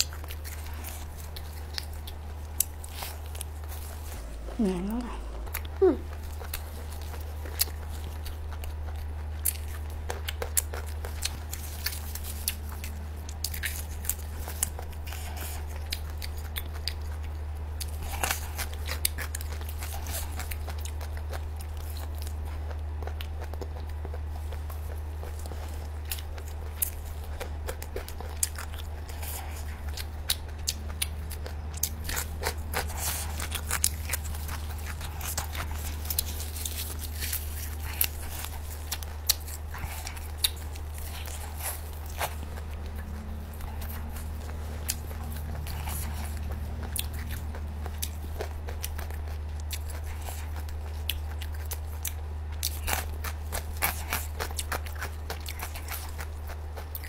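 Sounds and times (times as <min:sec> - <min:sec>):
low hum: 0:00.0 - 0:54.4
chewing and biting food: 0:00.0 - 0:57.0.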